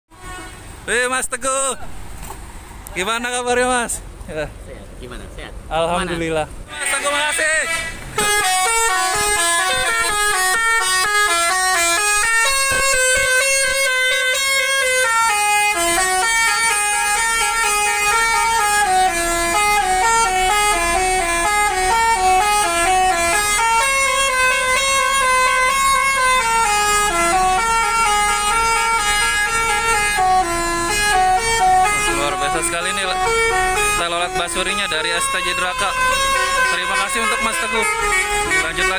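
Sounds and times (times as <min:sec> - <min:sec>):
musical air horn playing a tune: 0:00.1 - 0:00.7, 0:06.7 - 0:38.9.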